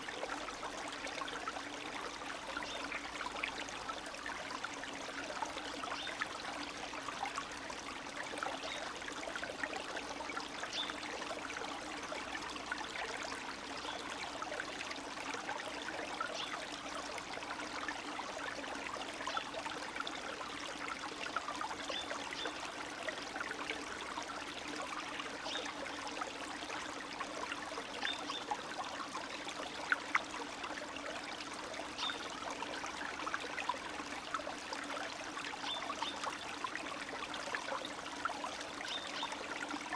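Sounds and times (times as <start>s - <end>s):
small splashes and drips: 0.0s - 39.9s
stream trickling and babbling: 0.0s - 39.9s.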